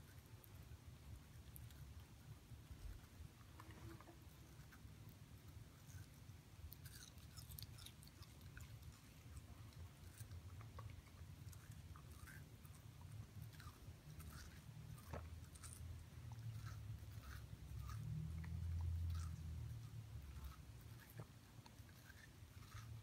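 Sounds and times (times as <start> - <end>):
low steady hum: 0.0 - 23.0
puppy chewing watermelon: 0.0 - 23.0.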